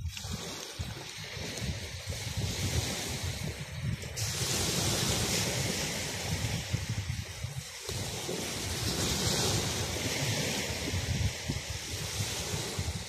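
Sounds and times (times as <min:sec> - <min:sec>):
waves washing up beach: 0:00.0 - 0:13.0
wind buffeting microphone: 0:00.0 - 0:13.0.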